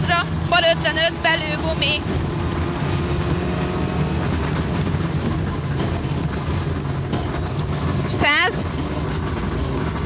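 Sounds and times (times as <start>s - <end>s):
rally car engine running hard: 0.0s - 10.0s.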